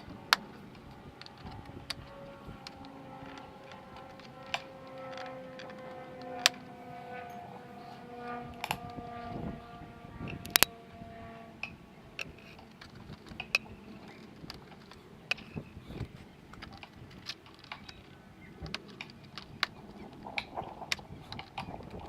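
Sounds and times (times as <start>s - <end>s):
hand tools clicking and tapping: 0.0s - 7.5s, 11.6s - 22.0s.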